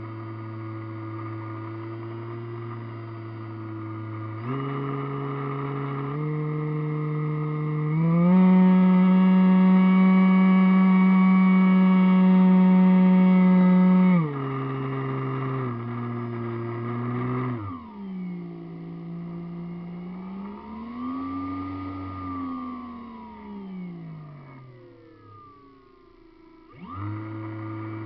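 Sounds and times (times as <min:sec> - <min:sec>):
model airplane motor and propeller: 0:00.0 - 0:28.0.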